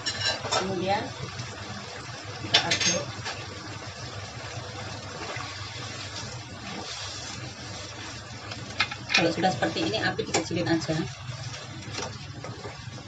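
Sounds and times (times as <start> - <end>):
food simmering in a wok: 0.0 - 13.0.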